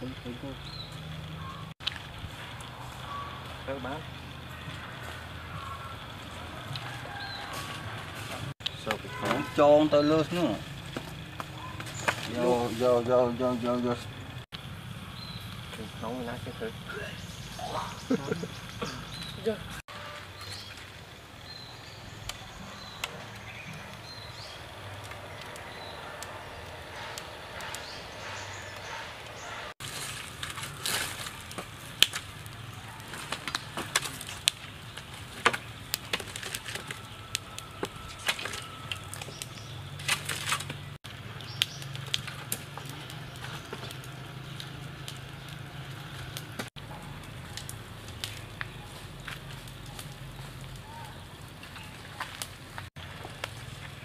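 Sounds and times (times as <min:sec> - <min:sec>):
log fire crackling and popping: 0:00.0 - 0:17.6, 0:18.3 - 0:54.0.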